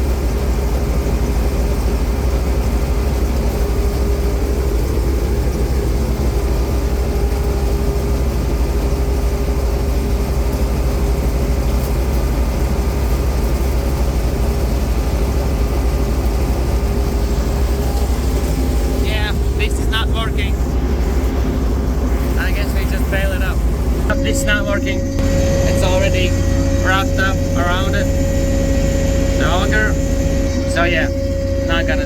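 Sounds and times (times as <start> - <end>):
combine harvester engine drone: 0.0 - 32.0
threshing machinery hum: 0.0 - 32.0.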